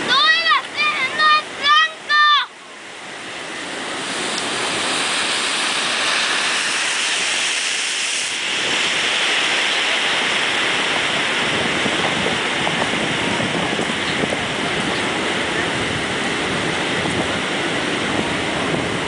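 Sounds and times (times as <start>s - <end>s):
ocean surf breaking: 0.0s - 19.0s
wind blowing across microphone: 2.7s - 19.0s.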